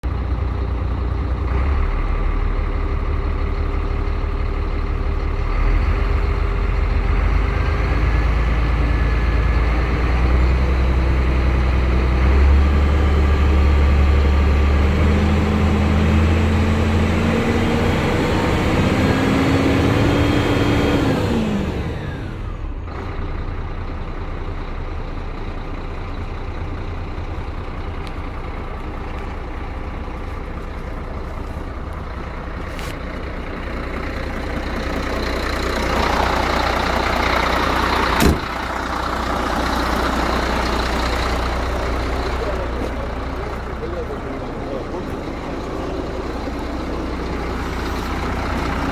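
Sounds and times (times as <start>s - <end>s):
diesel truck engine revving and idling: 0.0s - 48.9s.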